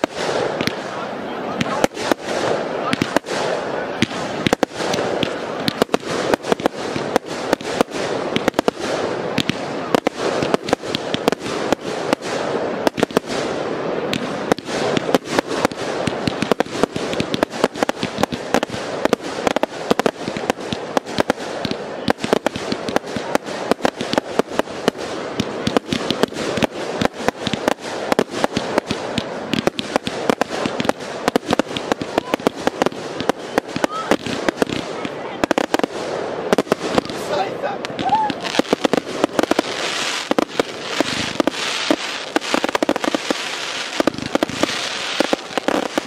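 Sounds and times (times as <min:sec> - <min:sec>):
fireworks bangs and bursts: 0:00.0 - 0:46.0
fireworks crackling: 0:00.0 - 0:46.0.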